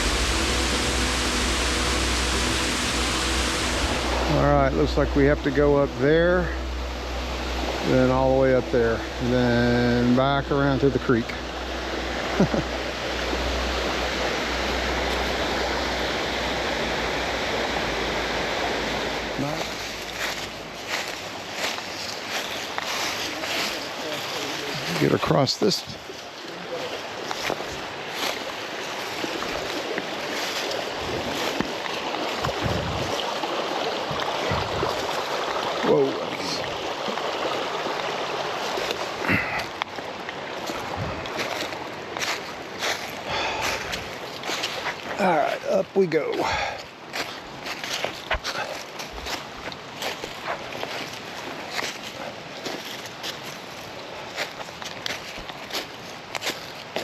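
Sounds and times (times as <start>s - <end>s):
creek rushing: 0.0s - 57.0s.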